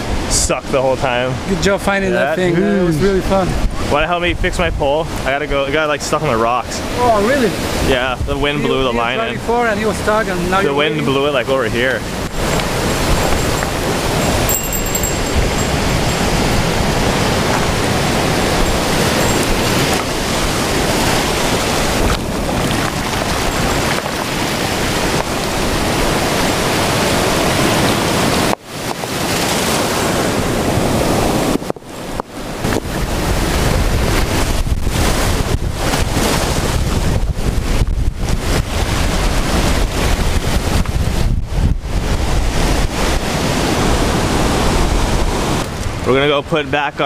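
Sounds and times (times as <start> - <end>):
wind buffeting microphone: 0.0 - 46.2
surf washing over stones: 0.0 - 47.0.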